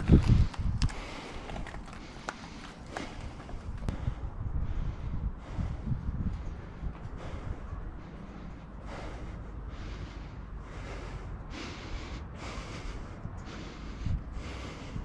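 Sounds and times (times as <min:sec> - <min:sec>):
wind on microphone: 0:00.0 - 0:10.2, 0:10.8 - 0:15.0
person breathing hard: 0:00.0 - 0:15.0.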